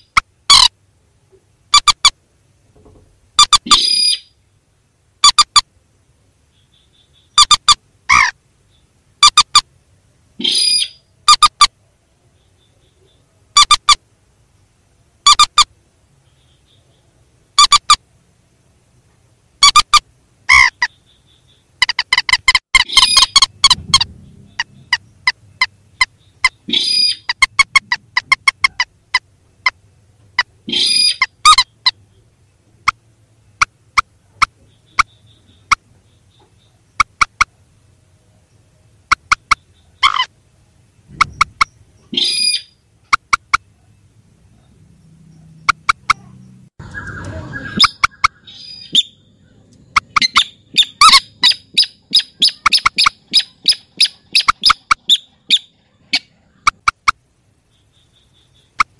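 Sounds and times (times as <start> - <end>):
rail bird calls: 0.0 - 2.2, 3.0 - 4.5, 6.3 - 18.2, 19.6 - 58.9.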